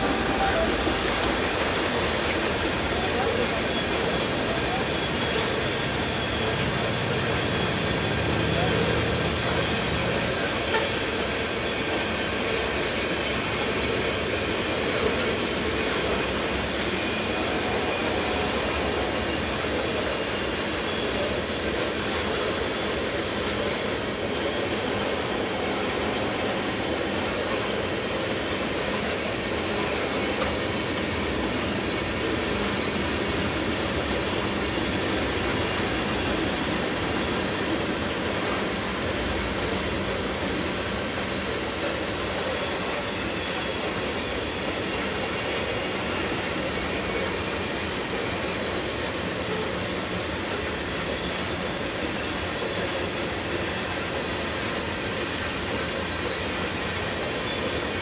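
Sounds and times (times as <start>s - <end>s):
high wheel squeal: 0.0s - 58.0s
train wheels rumbling on rail: 0.0s - 58.0s.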